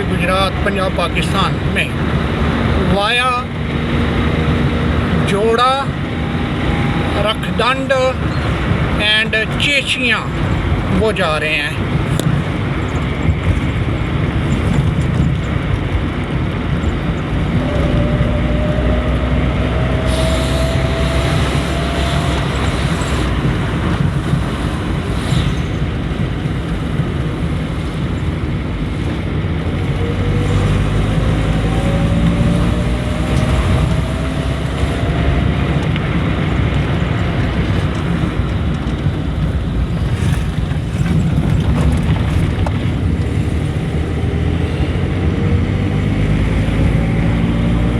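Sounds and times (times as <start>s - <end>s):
road noise: 0.0s - 47.9s
vehicle engine rumble: 0.0s - 47.9s.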